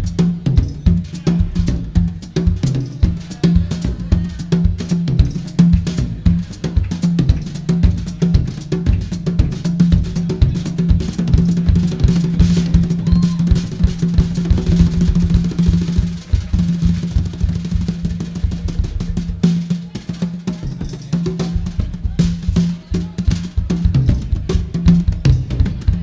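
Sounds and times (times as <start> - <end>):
fast live drum kit: 0.0 - 26.0.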